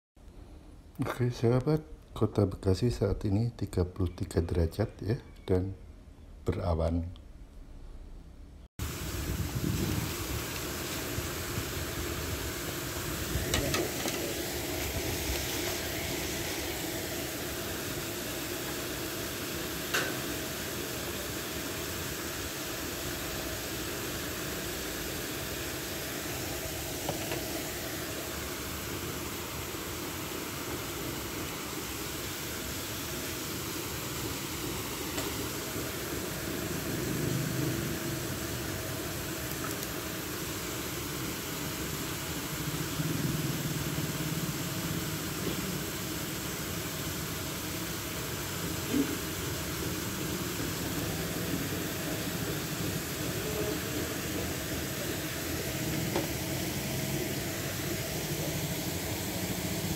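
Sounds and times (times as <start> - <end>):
outdoor background hiss: 0.2 - 59.9.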